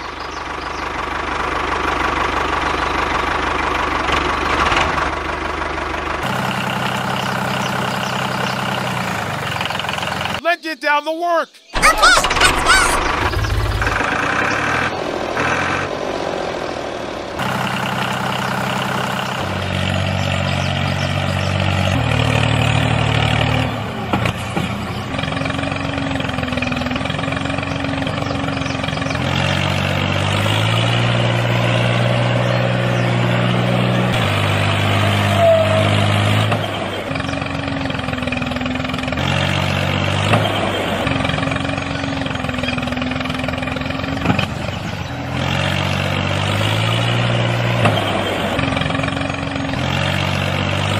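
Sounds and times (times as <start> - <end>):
tractor engine running: 0.0 - 10.6, 11.7 - 50.9.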